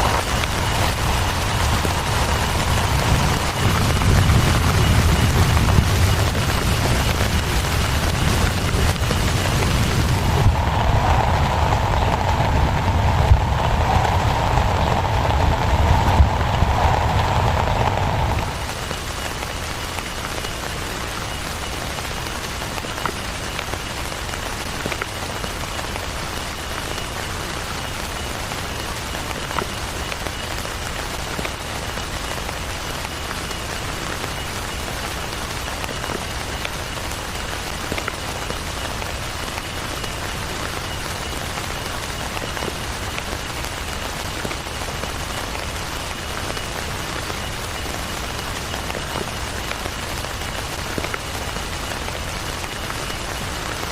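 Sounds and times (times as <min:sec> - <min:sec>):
heavy rain falling: 0:00.0 - 0:53.9
louder raindrop striking close: 0:00.0 - 0:53.9.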